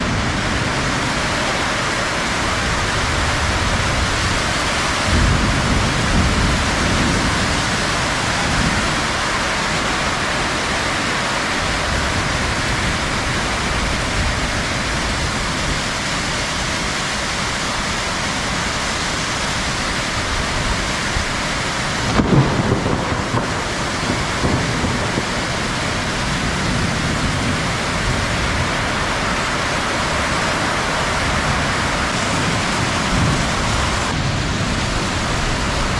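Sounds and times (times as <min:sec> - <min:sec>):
heavy rain: 0:00.0 - 0:35.9
thunder rumbling: 0:00.0 - 0:35.9.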